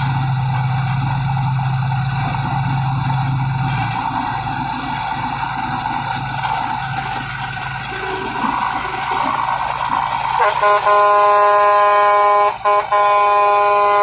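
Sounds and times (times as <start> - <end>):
diesel engine drone: 0.0 - 14.0
faint high whine: 0.0 - 14.0.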